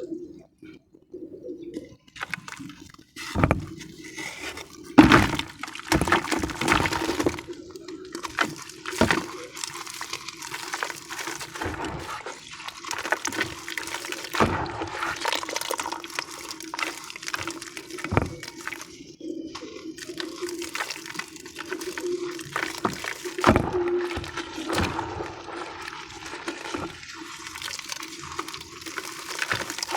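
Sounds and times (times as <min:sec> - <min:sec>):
wet cement crackling and crunching: 0:02.0 - 0:29.9
wet splashing: 0:02.2 - 0:29.9.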